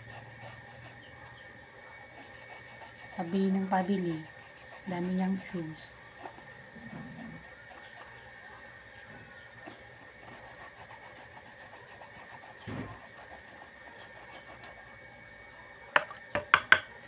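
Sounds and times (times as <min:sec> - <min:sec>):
brush scrubbing sneaker: 0:00.0 - 0:01.0, 0:02.1 - 0:14.9.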